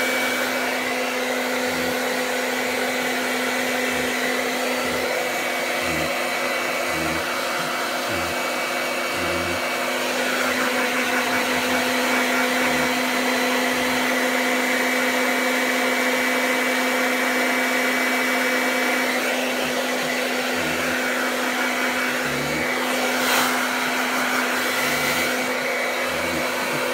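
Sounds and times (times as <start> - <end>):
hair dryer blowing: 0.0 - 26.9.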